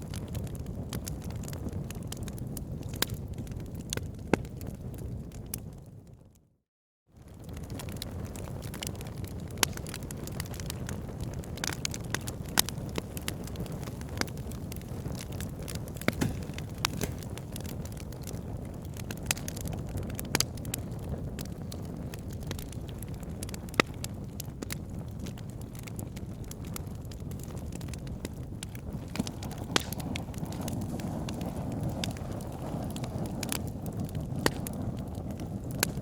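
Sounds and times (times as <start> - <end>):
wood fire crackling and popping: 0.0 - 6.0, 7.2 - 36.0
low fire rumble: 0.0 - 6.3, 7.2 - 36.0.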